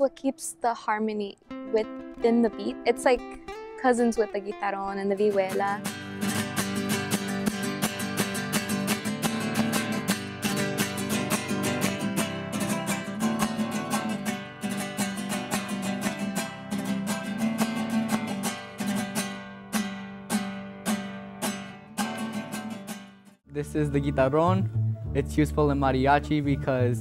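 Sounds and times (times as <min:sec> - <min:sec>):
classical guitar strumming: 0:01.4 - 0:23.4.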